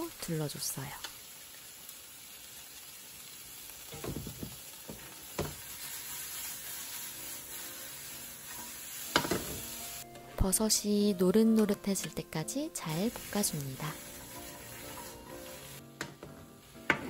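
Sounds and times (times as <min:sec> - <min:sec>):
vegetables sizzling in frying pan: 0:00.0 - 0:10.1, 0:11.9 - 0:17.0.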